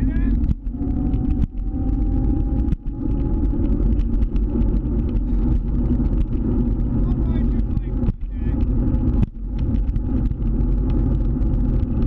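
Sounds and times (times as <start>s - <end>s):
motor scooter running: 0.0s - 12.0s.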